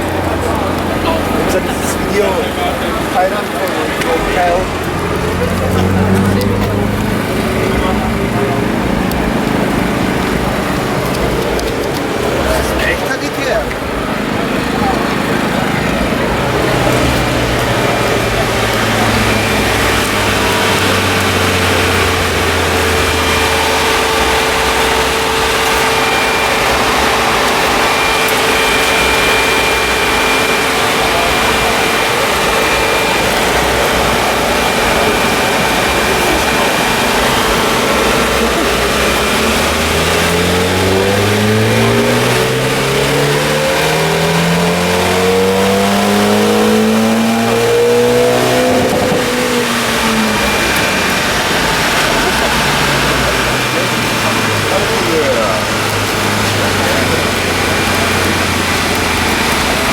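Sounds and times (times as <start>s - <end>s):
car engine droning and revving: 0.0s - 59.9s.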